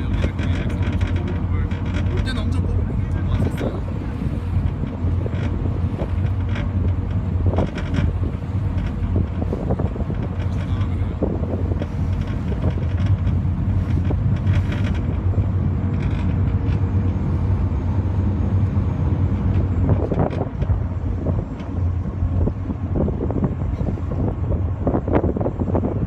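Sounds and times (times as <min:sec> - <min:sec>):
ferry engine droning: 0:00.0 - 0:26.0
wind buffeting microphone: 0:00.0 - 0:26.0.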